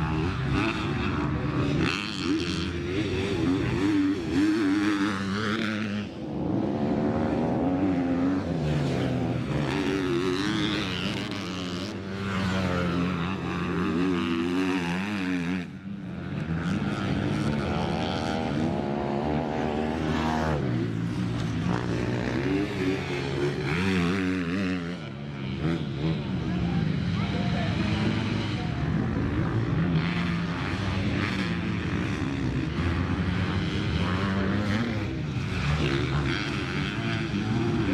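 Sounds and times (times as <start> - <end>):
dirt bike engines revving: 0.0 - 37.9.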